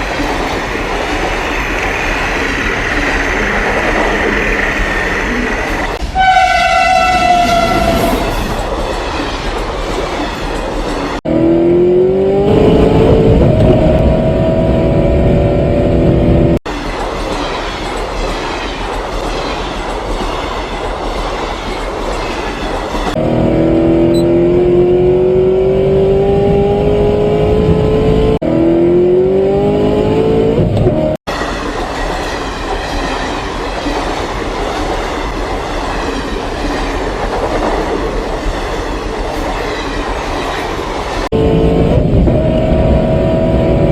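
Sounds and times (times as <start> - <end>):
train rumbling: 0.0 - 28.4, 29.0 - 43.9.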